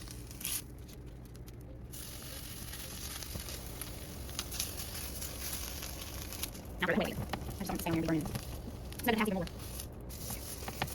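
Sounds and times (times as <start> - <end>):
crackles: 0.0 - 10.9
tortillas sizzling on a griddle: 1.9 - 10.9.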